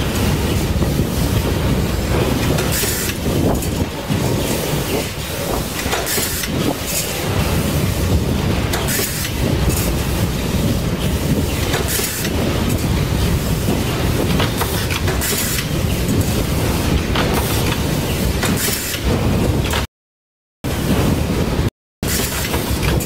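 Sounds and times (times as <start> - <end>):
factory machines clattering: 0.0 - 19.9, 20.7 - 23.0.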